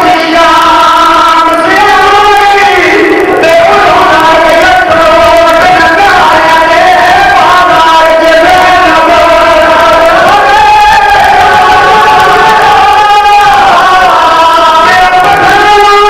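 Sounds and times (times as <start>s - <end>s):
men singing a lament together: 0.0s - 16.0s.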